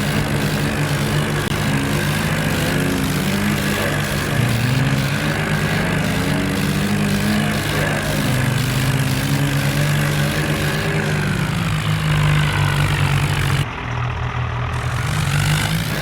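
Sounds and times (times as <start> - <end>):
tractor engines running hard: 0.0 - 16.0.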